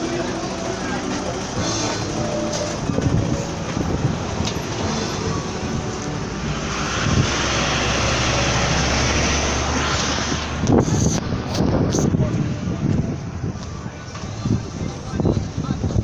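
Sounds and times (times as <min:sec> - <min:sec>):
street traffic noise: 0:00.0 - 0:16.0
vehicle engine rumble passing: 0:00.0 - 0:16.0.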